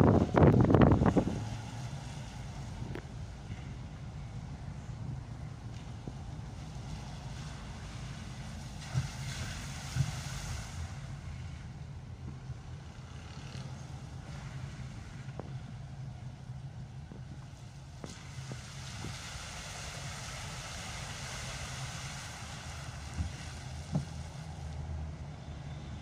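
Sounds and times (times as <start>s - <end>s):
engine and road hum: 0.0s - 26.0s
rain on car: 0.0s - 26.0s
tyres hissing on wet road: 0.0s - 26.0s.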